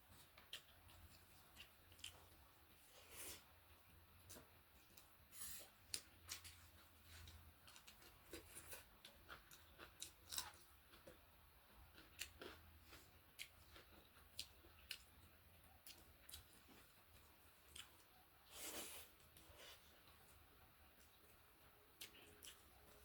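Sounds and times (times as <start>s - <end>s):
person chewing food: 0.1s - 21.4s, 22.0s - 23.0s.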